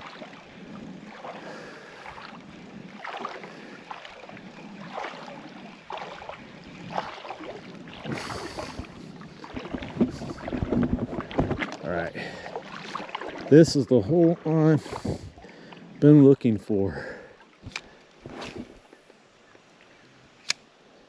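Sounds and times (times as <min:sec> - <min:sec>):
splashing of wading through creek: 0:00.0 - 0:19.0.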